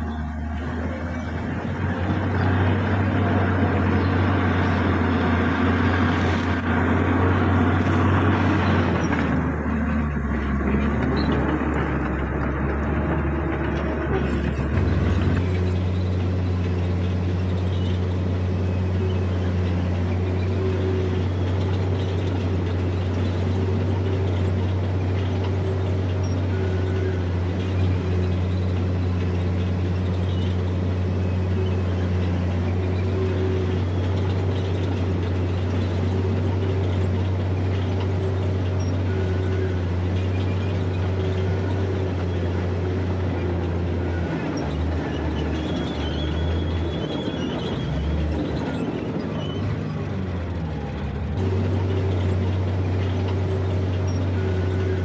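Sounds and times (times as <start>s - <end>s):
bulldozer diesel engine droning: 0.0s - 55.0s.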